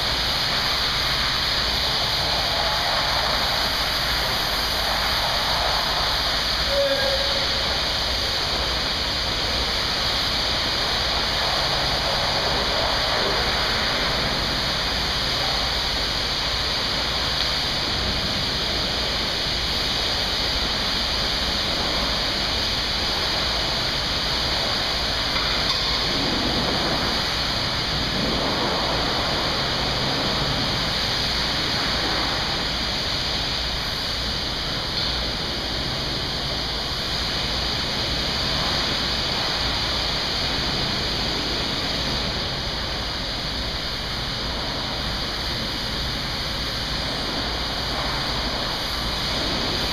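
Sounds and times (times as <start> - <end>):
high-pressure water spray hissing: 0.0 - 49.9.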